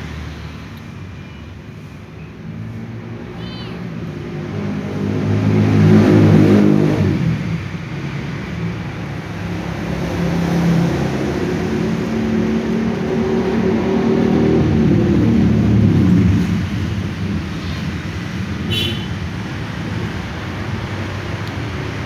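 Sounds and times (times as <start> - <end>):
vehicle engines passing: 0.0 - 22.0.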